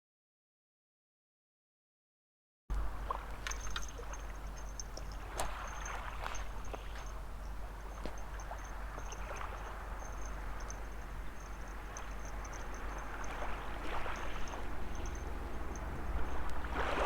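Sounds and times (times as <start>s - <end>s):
small waves lapping on a beach: 2.8s - 17.0s.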